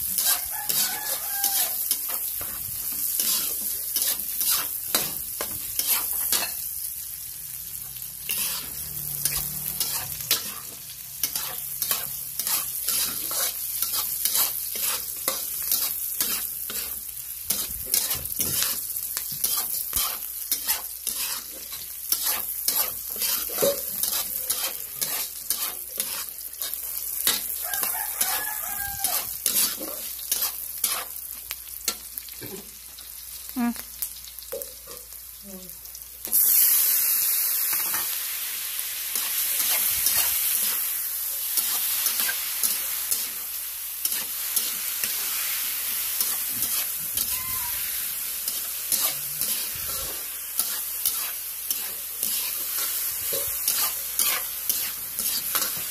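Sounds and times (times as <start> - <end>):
food sizzling in a frying pan: 0.0 - 55.9.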